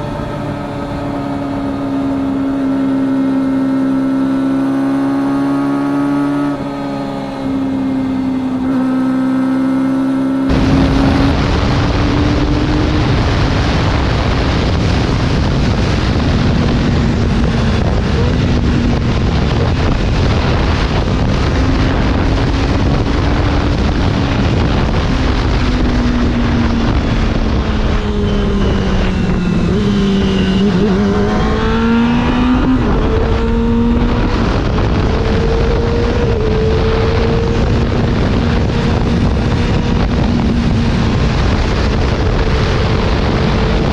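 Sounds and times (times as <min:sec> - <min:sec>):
motorcycle engine at high revs: 0:00.0 - 0:43.9
wind rush on microphone: 0:00.0 - 0:43.9.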